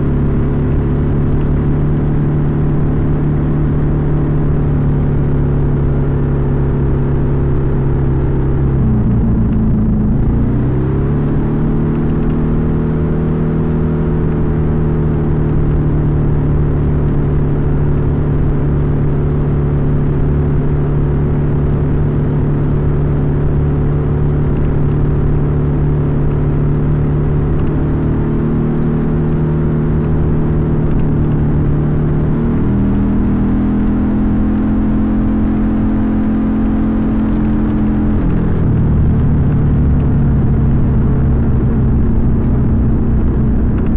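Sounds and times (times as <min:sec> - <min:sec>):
scooter engine running: 0:00.0 - 0:43.9.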